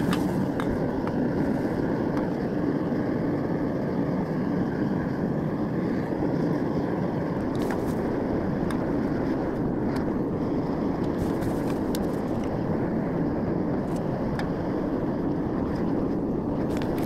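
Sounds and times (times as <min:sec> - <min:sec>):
furnace burner rushing: 0:00.0 - 0:17.0.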